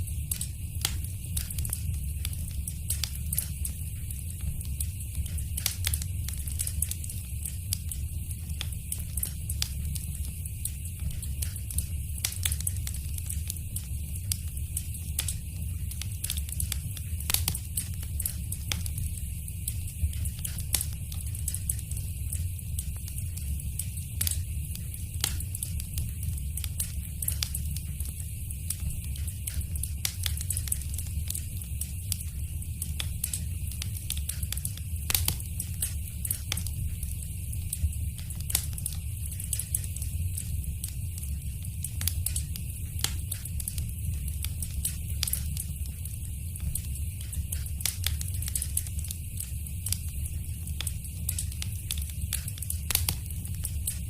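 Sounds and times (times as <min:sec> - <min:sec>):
fire crackling in a fireplace: 0:00.0 - 0:54.0.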